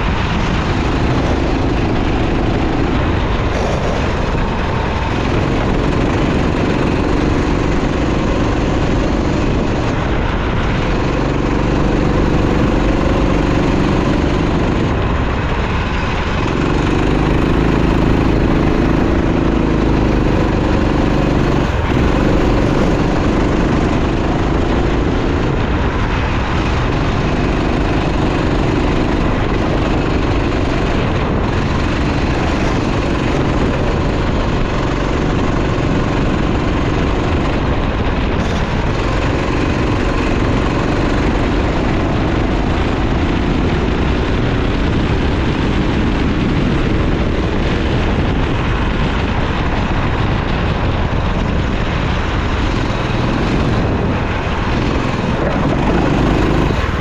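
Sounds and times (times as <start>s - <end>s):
go-kart engine running hard: 0.0s - 57.0s
loud rush of noise: 0.0s - 57.0s.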